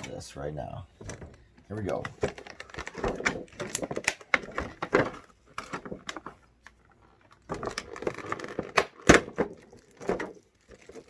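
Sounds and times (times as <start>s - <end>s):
plastic packaging crinkling: 1.7s - 11.0s.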